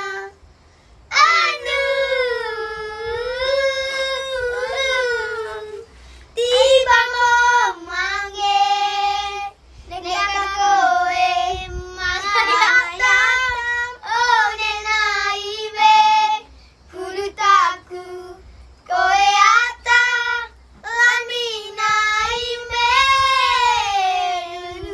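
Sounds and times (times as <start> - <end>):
child singing: 0.0 - 0.4, 1.1 - 24.9.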